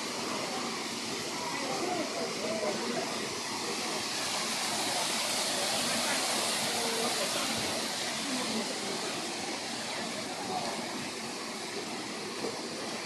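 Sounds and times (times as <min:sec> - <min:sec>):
faint distant voices: 0:00.0 - 0:13.0
steady outdoor hiss: 0:00.0 - 0:13.0.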